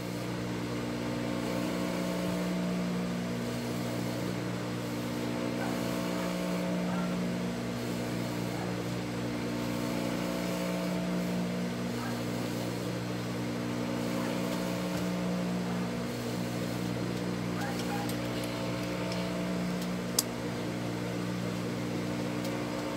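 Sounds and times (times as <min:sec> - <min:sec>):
sewing machine motor humming: 0:01.0 - 0:22.9.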